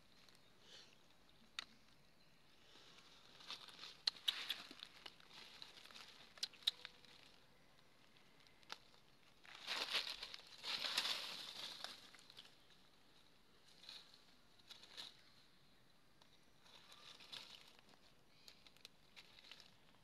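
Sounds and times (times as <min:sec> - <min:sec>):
dry leaves crunching underfoot: 0:02.7 - 0:15.4, 0:16.6 - 0:20.0.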